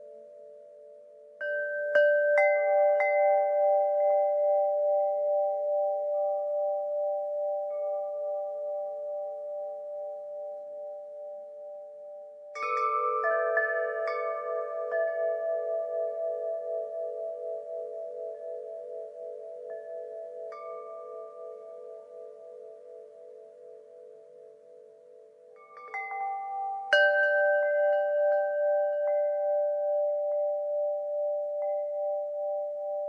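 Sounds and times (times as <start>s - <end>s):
wind chimes ringing: 0.0s - 10.5s, 12.5s - 24.9s, 25.5s - 33.0s.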